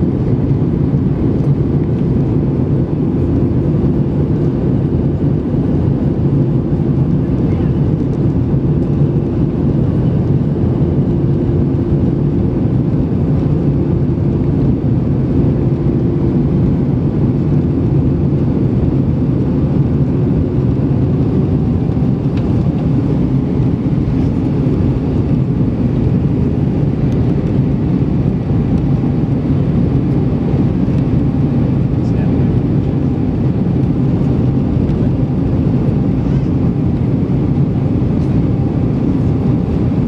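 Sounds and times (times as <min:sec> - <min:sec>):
aircraft cabin engine rumble: 0:00.0 - 0:40.0
steady hum: 0:00.0 - 0:40.0.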